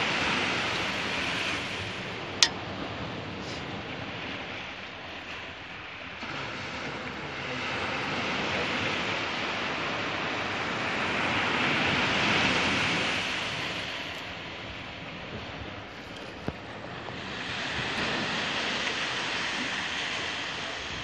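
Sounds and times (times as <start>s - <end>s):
sea surf washing on shore: 0.0s - 21.0s.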